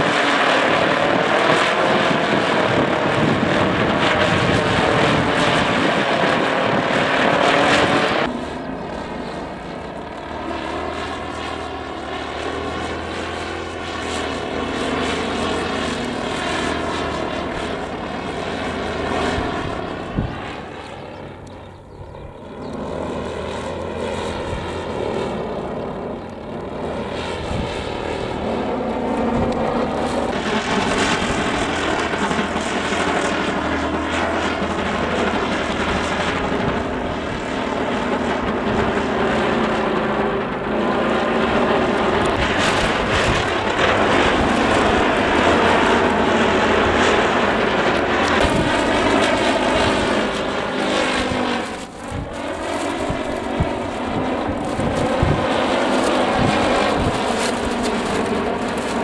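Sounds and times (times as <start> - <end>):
gusty wind on microphone: 0.0 - 8.4, 13.8 - 20.7, 26.9 - 59.0.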